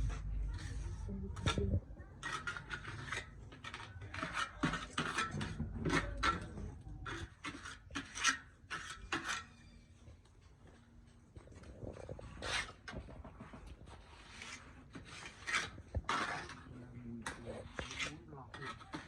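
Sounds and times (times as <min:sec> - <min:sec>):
rasping scrapes: 0:00.0 - 0:09.5, 0:11.9 - 0:19.0.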